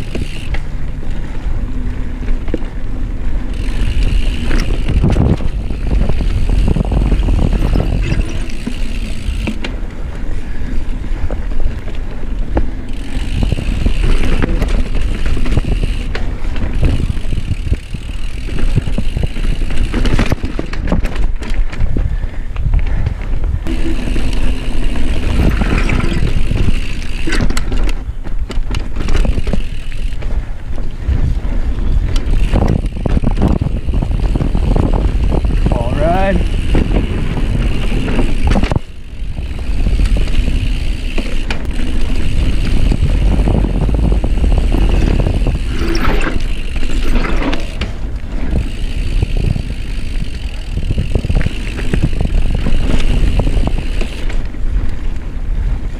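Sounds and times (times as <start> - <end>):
bike chain and frame rattling: 0.0 - 55.9
tyres rumbling on dirt: 0.0 - 55.9
wind buffeting microphone: 0.0 - 55.9.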